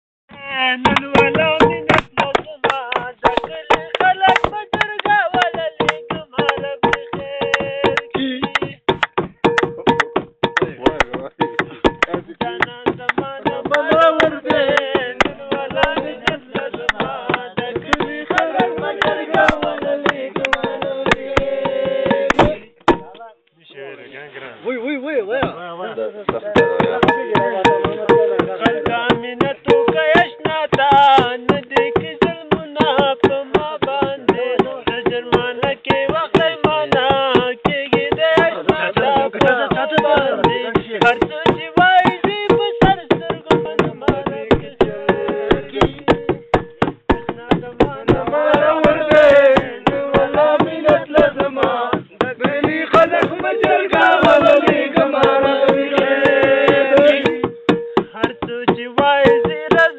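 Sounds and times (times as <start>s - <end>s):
person singing: 0.3s - 10.0s, 10.6s - 23.2s, 26.5s - 59.9s
fast steady drumbeat: 0.6s - 23.2s, 26.2s - 59.9s.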